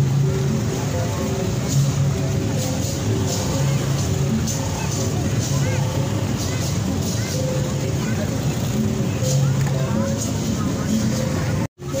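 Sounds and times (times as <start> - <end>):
music with held low notes: 0.0 - 12.0.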